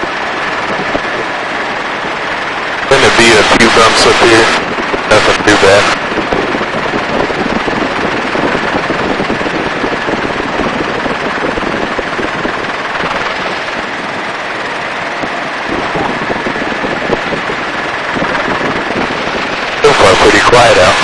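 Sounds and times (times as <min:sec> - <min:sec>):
helicopter rotor and engine noise: 0:00.0 - 0:21.0
wind buffeting microphone: 0:00.0 - 0:21.0.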